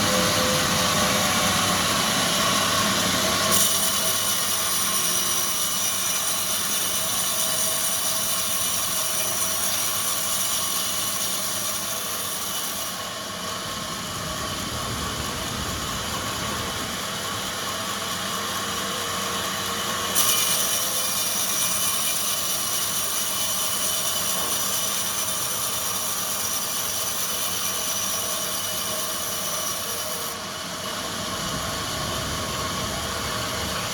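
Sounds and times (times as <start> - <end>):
sawmill machinery sawing logs: 0.0 - 33.9.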